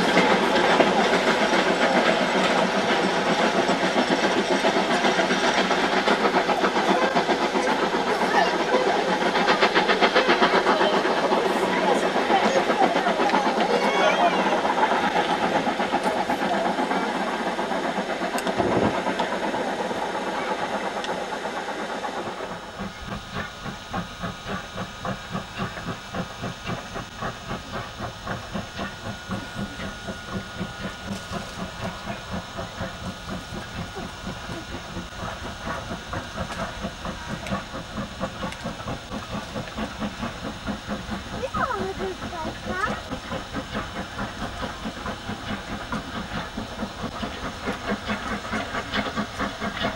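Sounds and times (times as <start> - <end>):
dense hiss of steam: 0.0 - 49.9
steam locomotive exhaust beats: 0.0 - 49.9.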